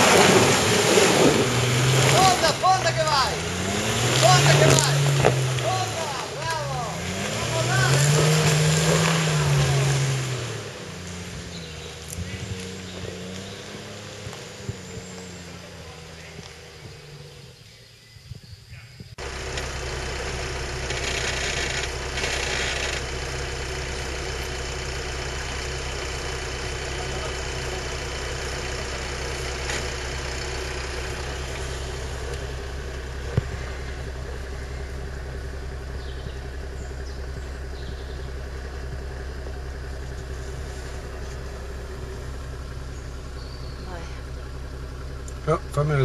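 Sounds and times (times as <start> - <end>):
vehicle engine running steadily: 0.0 - 46.0.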